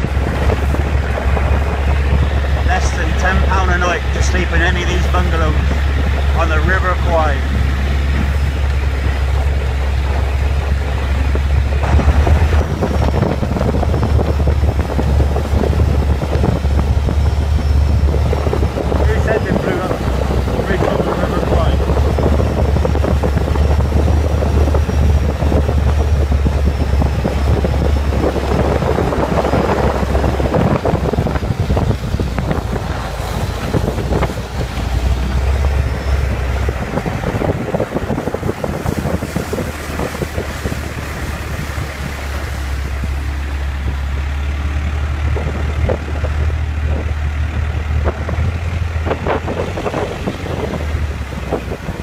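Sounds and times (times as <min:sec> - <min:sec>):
boat engine rumbling: 0:00.0 - 0:52.0
wind buffeting microphone: 0:00.0 - 0:52.0.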